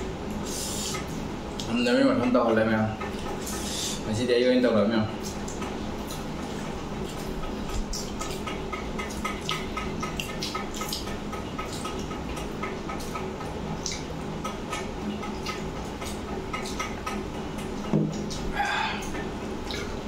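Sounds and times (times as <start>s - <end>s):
person chewing wetly: 0.3s - 2.4s, 5.2s - 20.0s.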